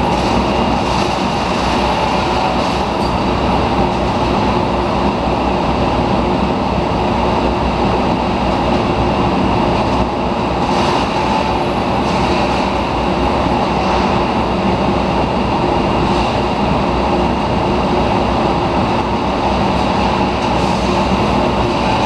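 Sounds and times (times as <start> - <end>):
rotary furnace rumbling: 0.0 - 22.0.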